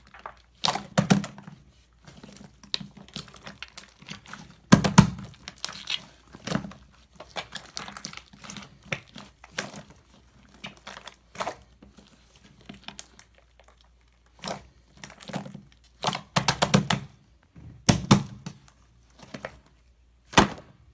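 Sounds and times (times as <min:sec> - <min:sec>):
slime crackling and popping: 0:00.0 - 0:17.2.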